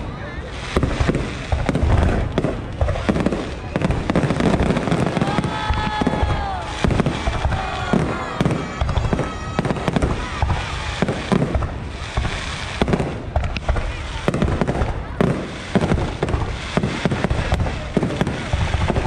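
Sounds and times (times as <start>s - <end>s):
fireworks bangs and crackles: 0.0s - 19.0s
fireworks whistling: 0.0s - 19.0s.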